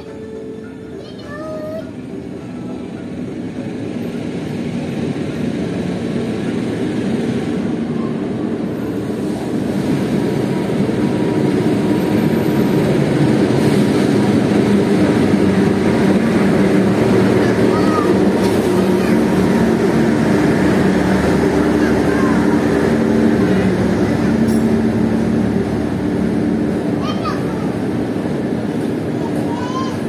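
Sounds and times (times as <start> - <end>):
diesel locomotive engine drone: 0.0 - 30.0.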